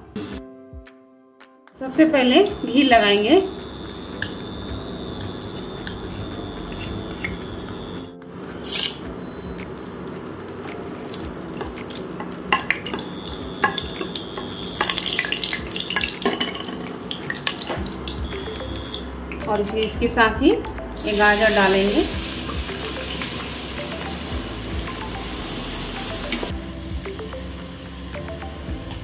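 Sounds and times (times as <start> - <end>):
ghee sizzling in a pot: 3.1 - 9.0, 9.7 - 19.1, 21.0 - 29.0.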